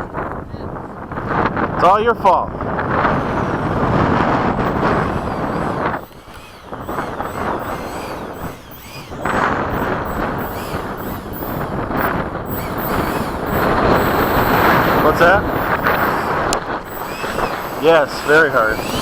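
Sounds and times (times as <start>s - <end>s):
gusty wind on microphone: 0.0s - 19.0s
electric ducted fan whine: 0.8s - 19.0s.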